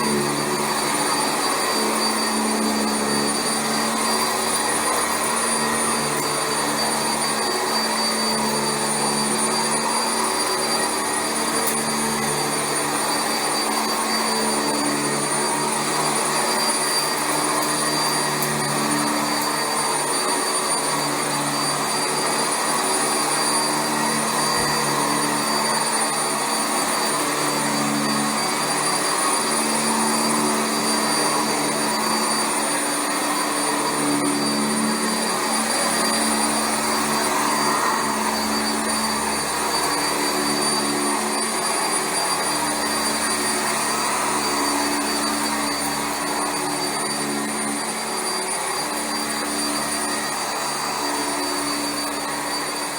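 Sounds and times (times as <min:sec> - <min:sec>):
upright vacuum running over carpet: 0:00.0 - 0:52.9.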